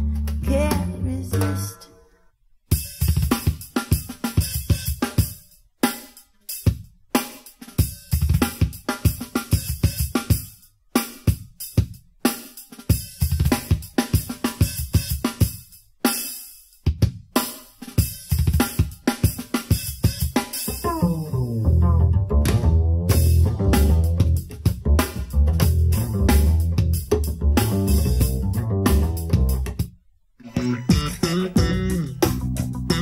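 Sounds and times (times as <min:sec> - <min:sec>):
drum kit playing: 0:00.0 - 0:01.8, 0:02.7 - 0:33.0.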